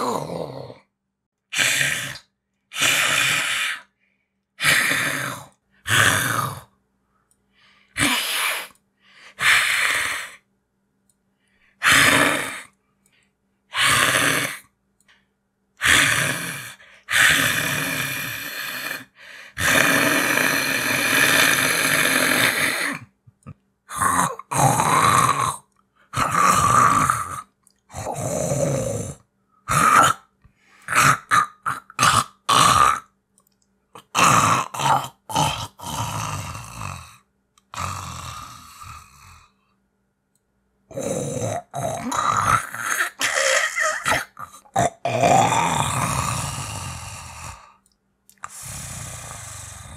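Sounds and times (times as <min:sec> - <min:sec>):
person growling like a creature: 0:00.0 - 0:00.9, 0:01.5 - 0:03.9, 0:04.6 - 0:06.7, 0:08.0 - 0:10.4, 0:11.8 - 0:12.8, 0:13.7 - 0:14.7, 0:15.8 - 0:33.1, 0:34.0 - 0:39.6, 0:40.9 - 0:47.8, 0:48.4 - 0:49.9.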